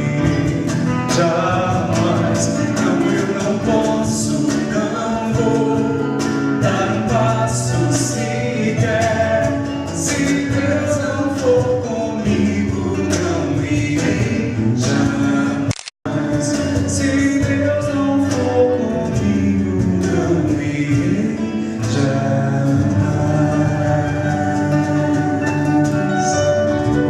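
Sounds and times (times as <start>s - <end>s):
voices singing worship song: 0.0s - 26.7s
instrumental accompaniment: 0.0s - 27.0s.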